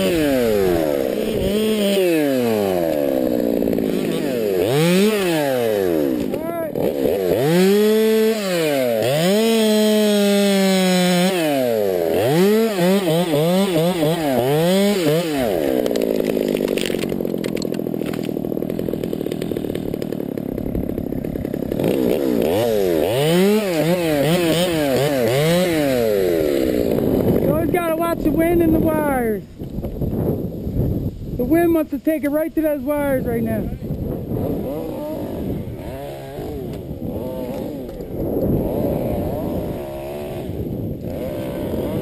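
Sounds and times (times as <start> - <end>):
chainsaw revving while cutting wood: 0.0 - 28.7, 33.2 - 42.0.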